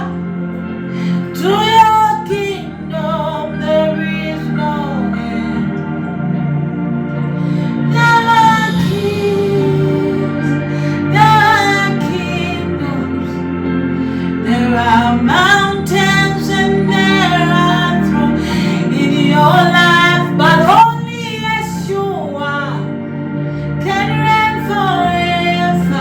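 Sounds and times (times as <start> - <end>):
woman singing: 0.0 - 0.2, 1.0 - 5.9, 7.5 - 13.5, 14.2 - 22.9, 23.8 - 26.0
sustained accompaniment chords: 0.0 - 26.0.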